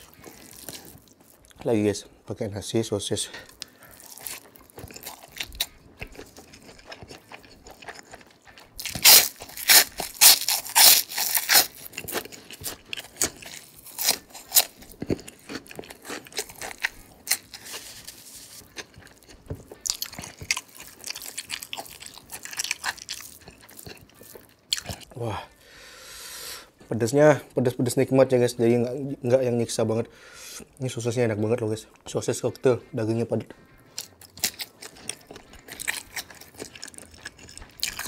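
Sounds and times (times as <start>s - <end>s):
person crunching and chewing food: 0.0s - 1.9s, 3.2s - 25.6s, 31.9s - 38.0s.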